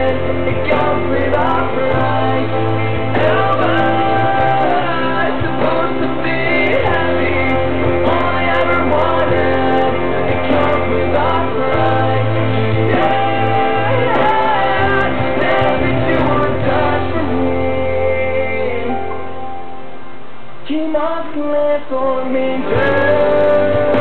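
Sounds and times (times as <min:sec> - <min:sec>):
person singing: 0:00.0 - 0:19.5, 0:20.7 - 0:24.0
instrumental backing track: 0:00.0 - 0:21.4.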